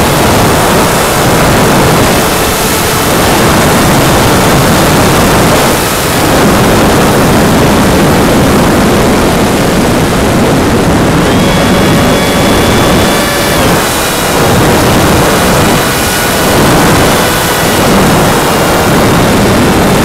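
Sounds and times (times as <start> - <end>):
electric motor whine: 0.0 - 20.0
propeller noise: 0.0 - 20.0
wind rush: 0.0 - 20.0.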